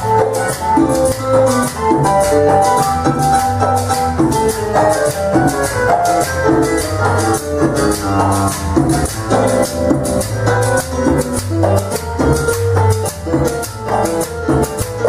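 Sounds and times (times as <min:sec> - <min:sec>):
high percussion: 0:00.0 - 0:15.0
keyboard melody: 0:00.0 - 0:15.0
pulsing bass line: 0:00.0 - 0:15.0.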